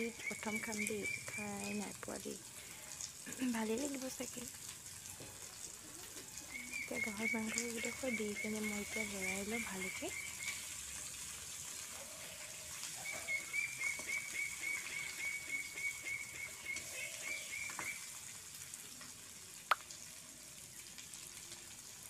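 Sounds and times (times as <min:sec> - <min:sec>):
meat sizzling in wok: 0:00.0 - 0:22.0.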